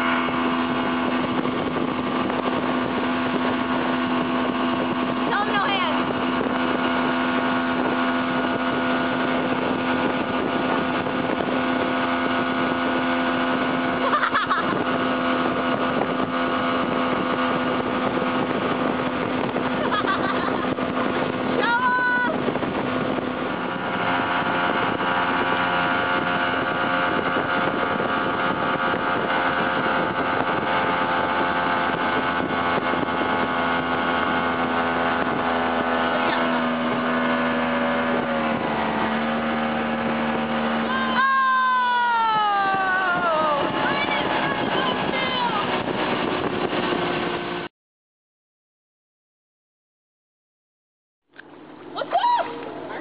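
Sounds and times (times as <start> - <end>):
motorboat engine running: 0.0 - 47.7, 51.3 - 53.0
water rushing in wake: 0.0 - 47.7.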